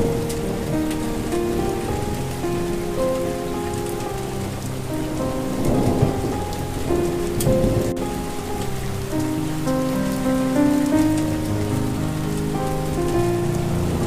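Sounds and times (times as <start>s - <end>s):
soft sustained melody: 0.0s - 14.0s
steady rain falling: 0.0s - 14.0s
thunder rumbling: 0.0s - 14.0s.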